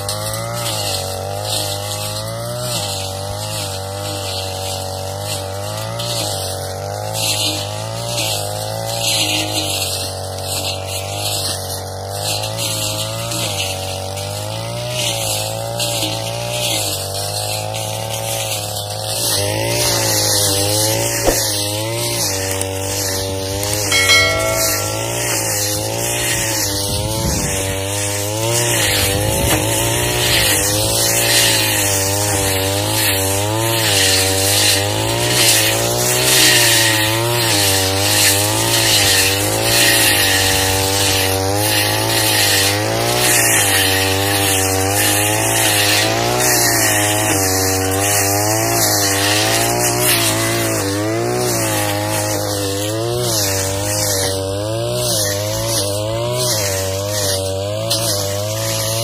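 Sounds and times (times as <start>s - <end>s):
blade cutting thick grass: 0.0s - 59.0s
brush cutter engine at high revs: 0.0s - 59.0s.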